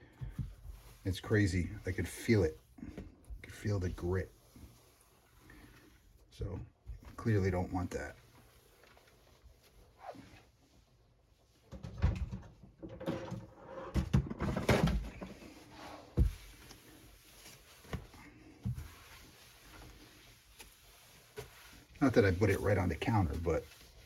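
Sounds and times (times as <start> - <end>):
rubbing and rustling: 0.0 - 11.8, 13.6 - 24.0.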